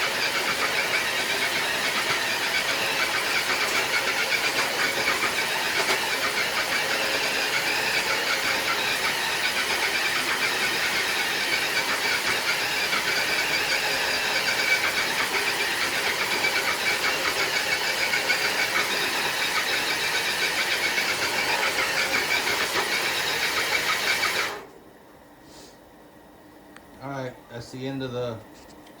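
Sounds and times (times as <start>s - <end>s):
toy truck electric motor whine: 0.0s - 24.7s.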